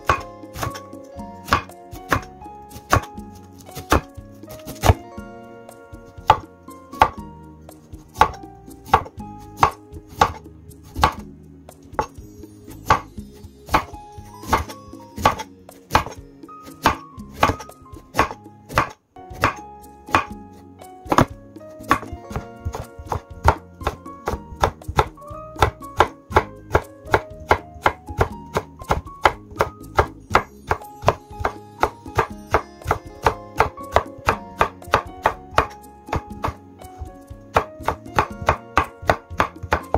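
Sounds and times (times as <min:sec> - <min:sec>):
knife chopping on wooden board: 0:00.0 - 0:05.0, 0:06.2 - 0:06.4, 0:07.0 - 0:07.2, 0:08.0 - 0:11.2, 0:12.8 - 0:13.1, 0:13.7 - 0:20.4, 0:21.1 - 0:39.9
light background music: 0:00.0 - 0:39.9.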